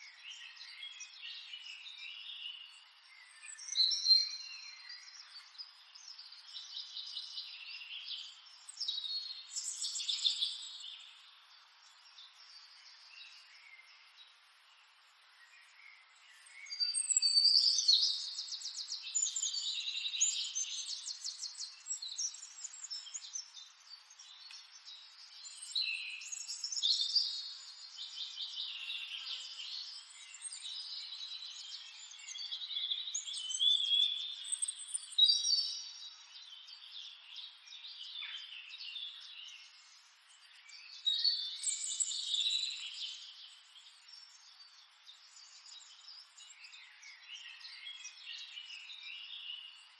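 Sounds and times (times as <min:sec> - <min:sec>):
songbirds singing and chirping: 0:00.0 - 0:49.9.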